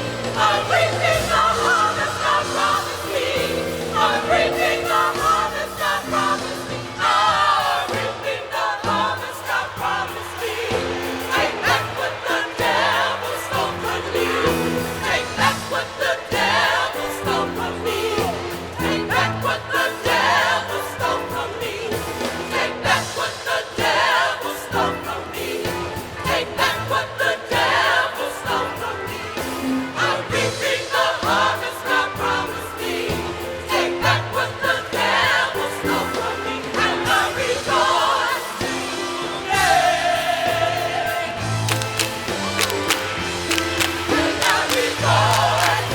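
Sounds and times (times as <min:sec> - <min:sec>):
choir singing with band: 0:00.0 - 0:45.9.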